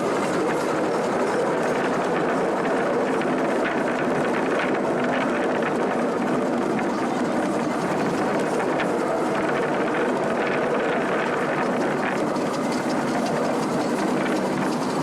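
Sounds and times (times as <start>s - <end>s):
miniature train rumbling on track: 0.0s - 15.0s.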